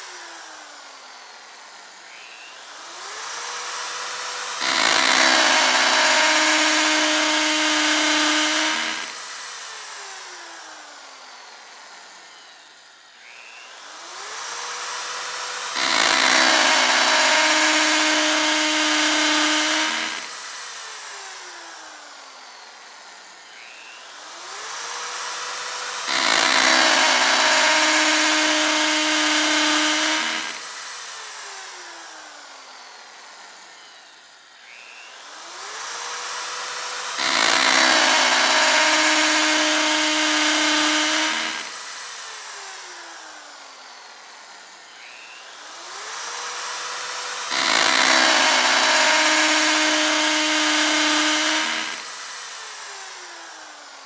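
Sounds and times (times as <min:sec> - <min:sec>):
electric drill drilling: 0:00.0 - 0:54.0.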